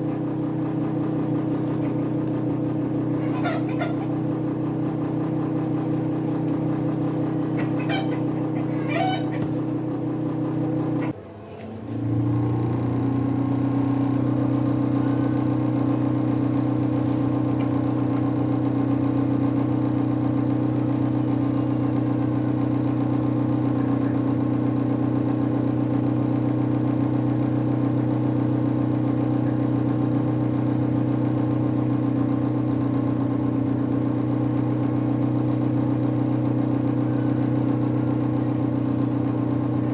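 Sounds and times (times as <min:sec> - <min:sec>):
dust collector blower motor humming: 0:00.0 - 0:39.9.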